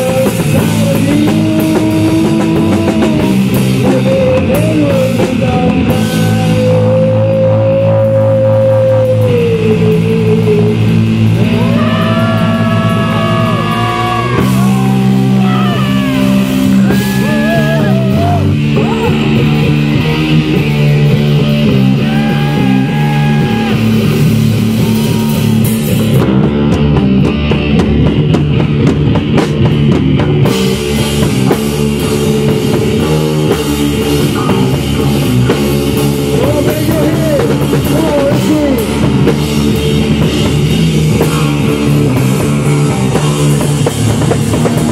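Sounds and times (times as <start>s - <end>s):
bass guitar: 0.0s - 44.9s
drum kit: 0.0s - 44.9s
electric guitar bending notes: 0.0s - 44.9s.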